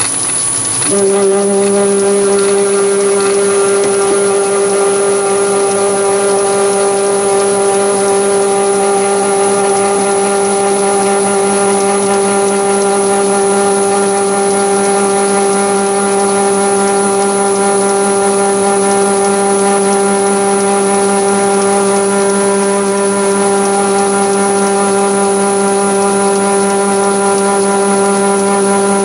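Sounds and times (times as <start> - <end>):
lathe motor and gear whine: 0.0 - 29.0
thin high whine: 0.0 - 29.0.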